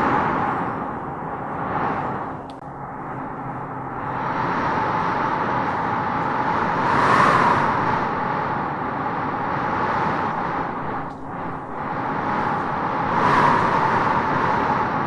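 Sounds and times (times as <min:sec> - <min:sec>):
wind blowing: 0:00.0 - 0:15.0.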